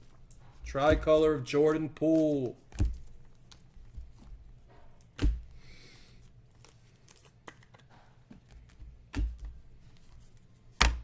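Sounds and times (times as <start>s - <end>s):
trading cards clicking and rustling: 0.0s - 11.0s.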